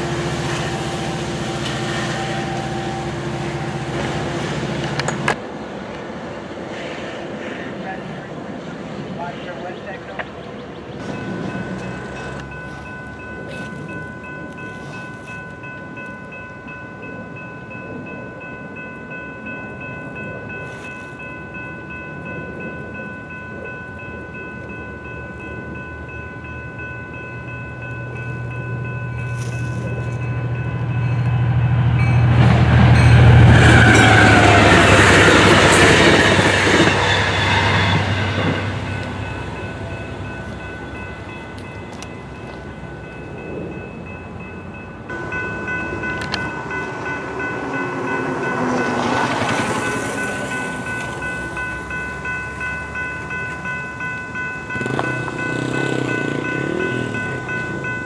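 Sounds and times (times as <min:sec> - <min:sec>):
high ringing tone: 0:00.0 - 0:05.1, 0:11.0 - 0:58.0
diesel train rumble: 0:00.0 - 0:58.0
wheel and rail noise: 0:00.0 - 0:58.0.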